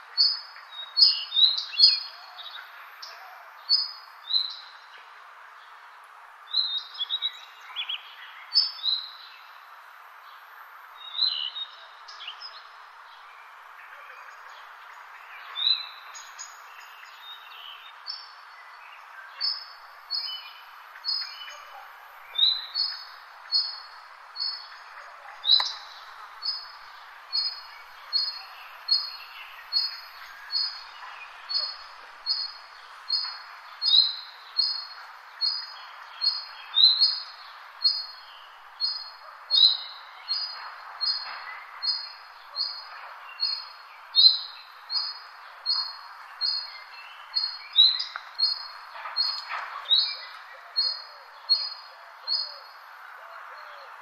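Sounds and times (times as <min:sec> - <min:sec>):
background hiss: 0:00.0 - 0:54.0
songbird chirping: 0:00.0 - 0:54.0.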